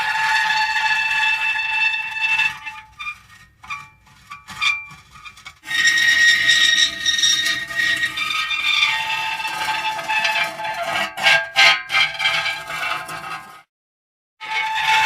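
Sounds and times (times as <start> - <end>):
metal creaking and squealing: 0.0 - 13.6, 14.4 - 15.0.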